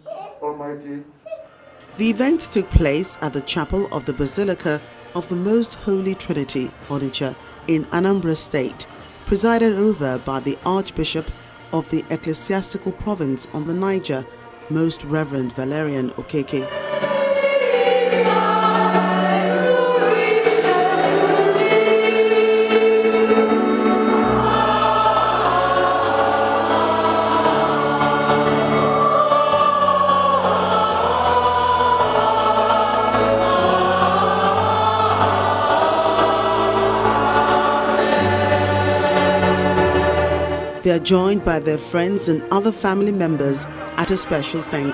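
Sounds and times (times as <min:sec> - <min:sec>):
church choir singing: 0:01.7 - 0:44.9.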